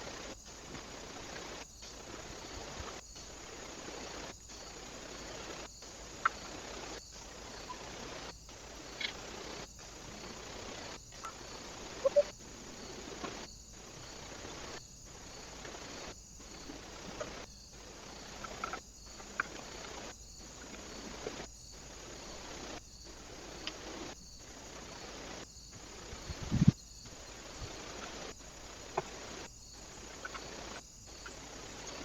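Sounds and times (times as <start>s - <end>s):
microphone hiss: 0.0s - 32.0s.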